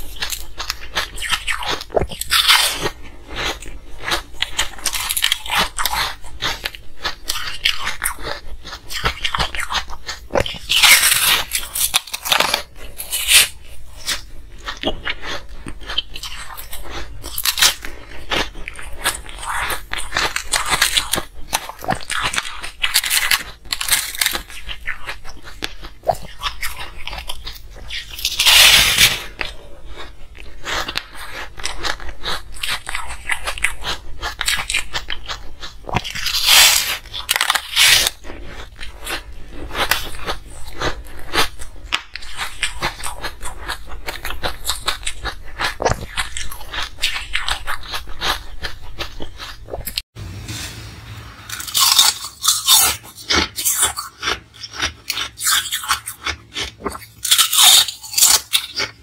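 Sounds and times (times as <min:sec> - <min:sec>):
crunching ice cubes: 0:00.0 - 0:50.0, 0:51.5 - 0:59.0.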